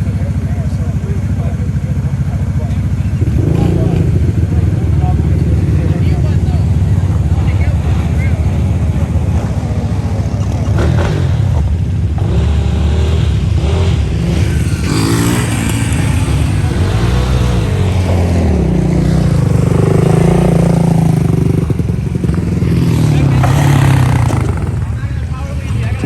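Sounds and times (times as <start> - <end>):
off-road bike engines revving: 0.0 - 26.0.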